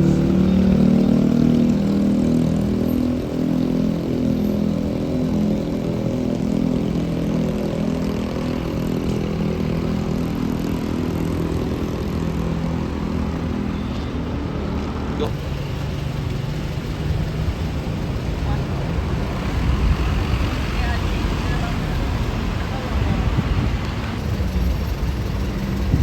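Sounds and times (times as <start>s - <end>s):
heavy vehicle engine humming: 0.0s - 26.0s.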